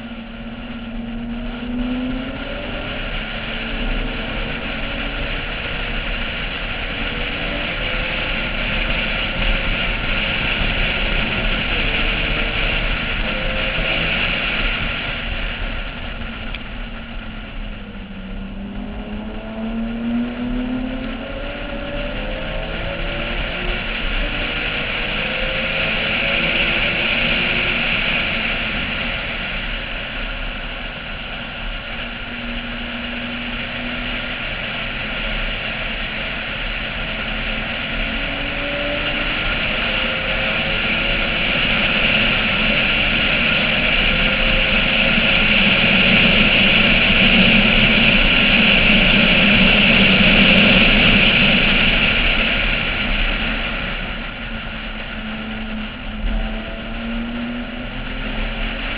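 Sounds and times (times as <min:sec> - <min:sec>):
car engine revving through gears: 0:00.0 - 0:58.9
wind rushing over microphone: 0:00.0 - 0:58.9.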